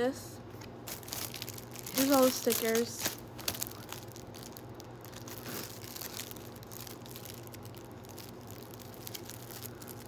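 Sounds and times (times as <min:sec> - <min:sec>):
low electrical hum: 0:00.0 - 0:10.0
packaging crinkling: 0:00.8 - 0:10.0.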